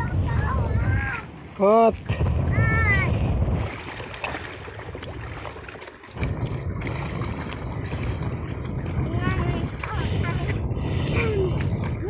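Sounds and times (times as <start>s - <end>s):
surf and water: 0.0s - 12.0s
wind buffeting microphone: 0.0s - 12.0s.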